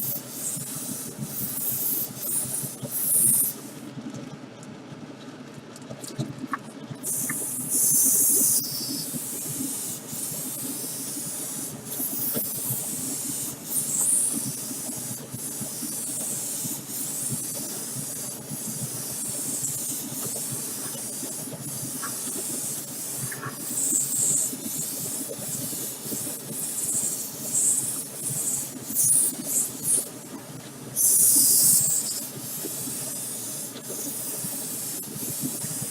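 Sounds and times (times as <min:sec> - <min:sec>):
spray paint hissing: 0:00.0 - 0:03.8, 0:07.0 - 0:30.4, 0:31.0 - 0:35.9.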